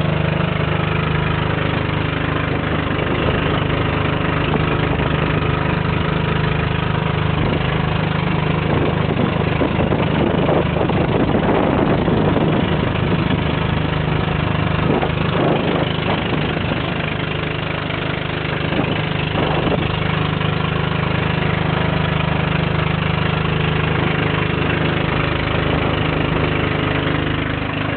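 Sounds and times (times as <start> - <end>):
boat engine humming: 0.0 - 27.9.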